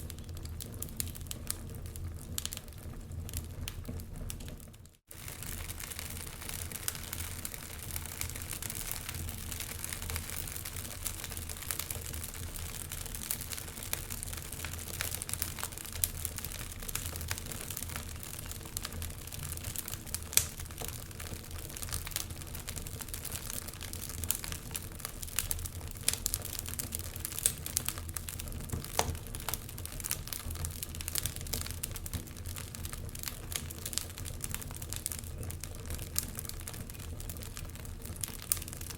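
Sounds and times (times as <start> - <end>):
fire hissing and rumbling: 0.0 - 38.9
fire popping and snapping: 0.0 - 38.9.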